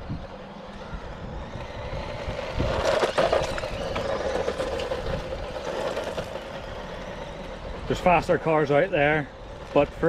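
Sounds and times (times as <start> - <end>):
toy car motor whine: 0.0 - 10.0
tyre noise on tarmac: 0.0 - 10.0.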